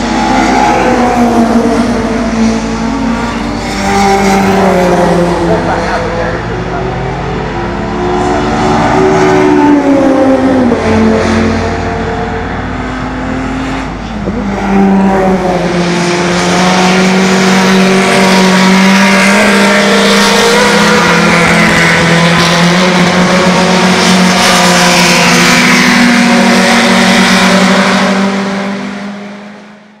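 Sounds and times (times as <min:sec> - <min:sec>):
racing car passing: 0:00.0 - 0:29.9
racing engine at high revs: 0:00.0 - 0:30.0.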